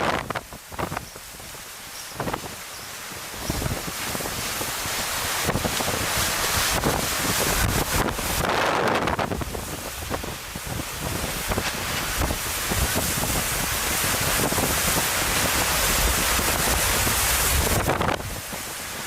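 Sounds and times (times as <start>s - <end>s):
hurricane wind and rain: 0.0s - 19.0s
wind buffeting microphone: 0.0s - 19.0s.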